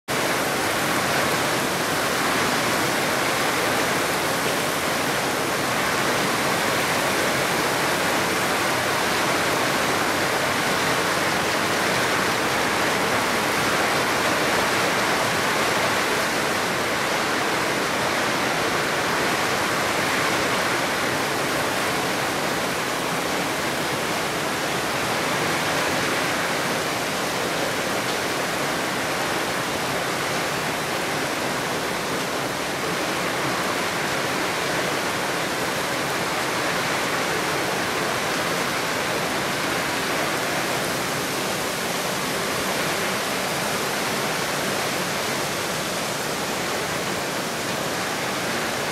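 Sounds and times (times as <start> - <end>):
heavy rain on a street: 0.0 - 48.9.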